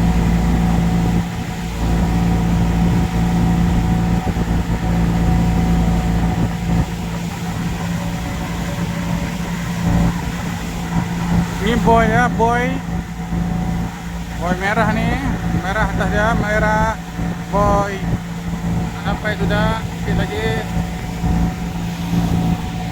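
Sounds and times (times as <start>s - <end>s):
boat engine droning: 0.0s - 22.9s.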